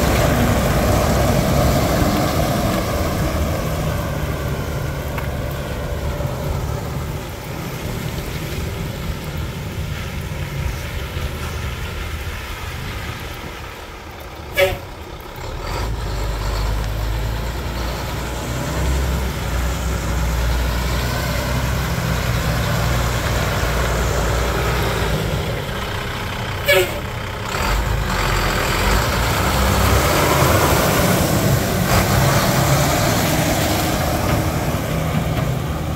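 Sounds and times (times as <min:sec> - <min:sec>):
diesel truck engine rumble: 0:00.0 - 0:35.9.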